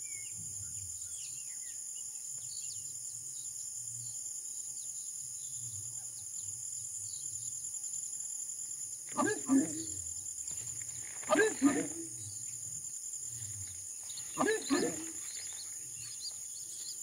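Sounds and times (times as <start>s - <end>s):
small birds chirping: 0.0s - 7.7s, 8.6s - 17.0s.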